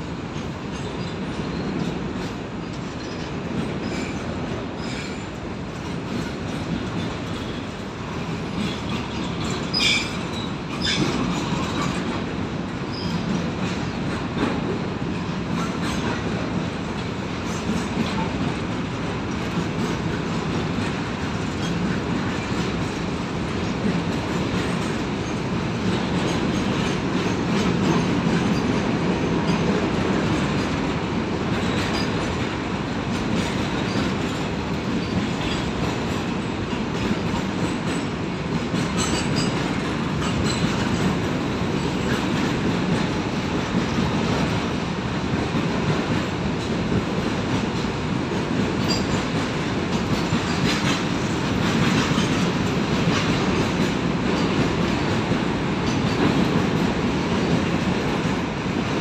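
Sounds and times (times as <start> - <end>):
train wheels rumbling on rail: 0.0 - 59.0
wheels clicking over rail joints: 0.4 - 59.0.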